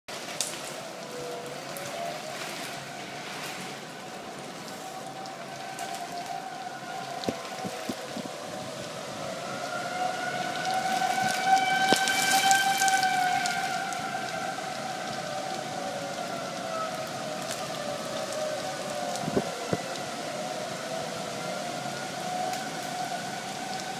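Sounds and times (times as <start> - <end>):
rain falling: 0.1 - 23.9
tornado warning siren wailing: 0.1 - 23.9.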